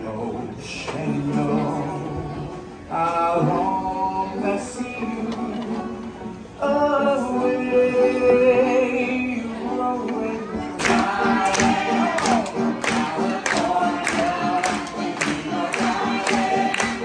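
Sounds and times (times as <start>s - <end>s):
men and women singing together: 0.0s - 17.0s.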